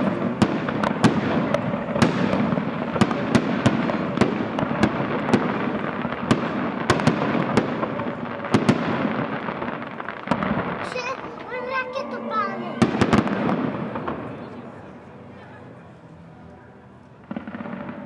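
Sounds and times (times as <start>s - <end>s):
rumble and crackle of explosions: 0.0s - 12.2s, 12.8s - 15.1s, 17.2s - 18.0s.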